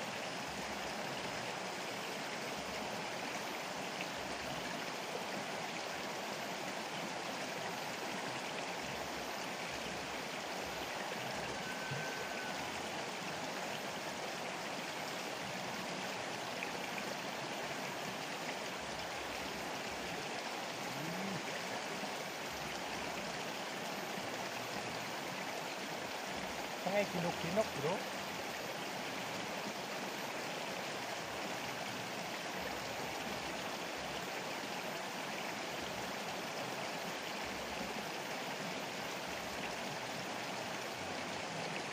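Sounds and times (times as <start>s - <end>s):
river water flowing: 0.0s - 41.9s.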